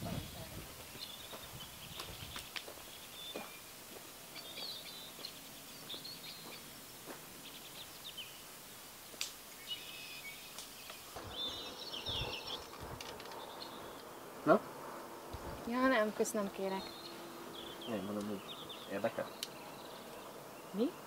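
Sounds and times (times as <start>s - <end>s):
faint outdoor hiss: 0.0s - 21.0s
songbirds chirping: 0.0s - 21.0s.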